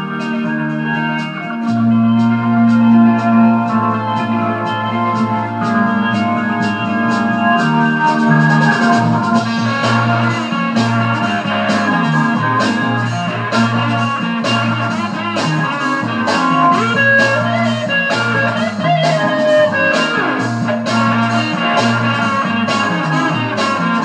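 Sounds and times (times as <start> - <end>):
psychedelic rock music: 0.0 - 24.0.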